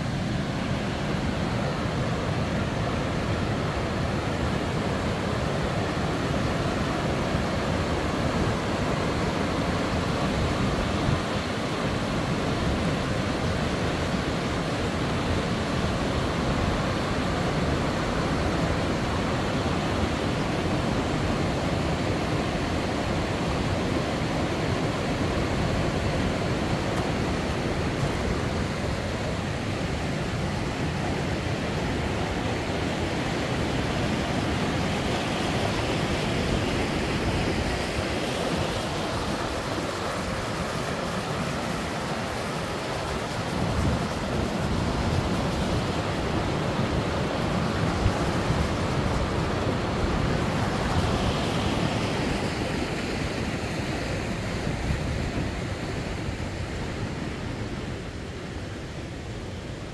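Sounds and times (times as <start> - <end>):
fast-flowing river water: 0.0 - 59.9.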